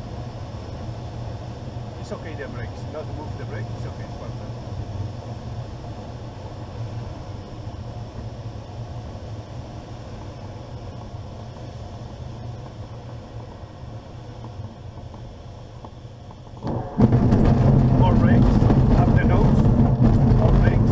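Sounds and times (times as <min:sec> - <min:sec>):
air rushing over glider canopy: 0:00.0 - 0:20.9.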